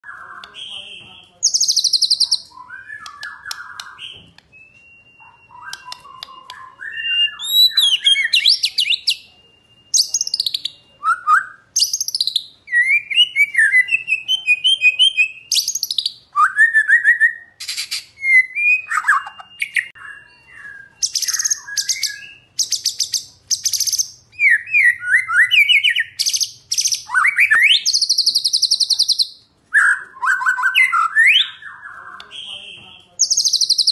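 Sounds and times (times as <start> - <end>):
bird singing whistled phrases: 0.0 - 33.9.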